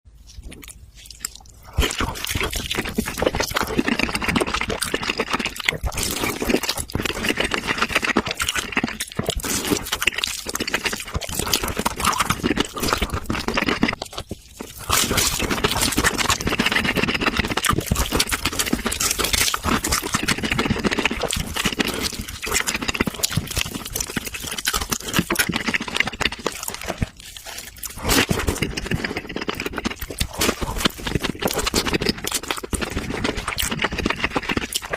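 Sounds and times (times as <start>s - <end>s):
person chewing and crunching food: 0.1s - 34.9s.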